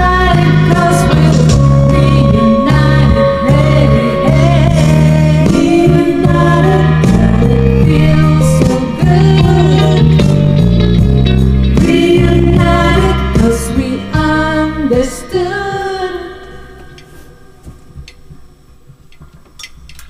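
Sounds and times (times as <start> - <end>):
women singing into microphones: 0.0 - 10.6, 11.7 - 17.3
instrumental backing music: 0.0 - 20.0.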